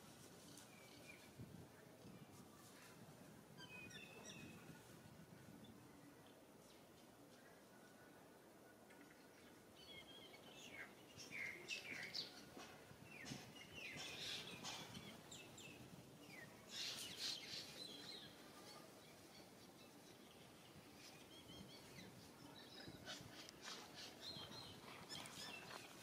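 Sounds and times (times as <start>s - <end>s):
faint birdsong chirps: 3.5s - 26.0s.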